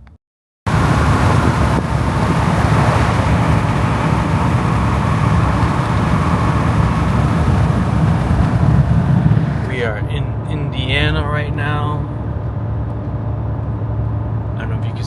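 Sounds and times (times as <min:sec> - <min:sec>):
truck road and wind noise: 0:00.0 - 0:15.0.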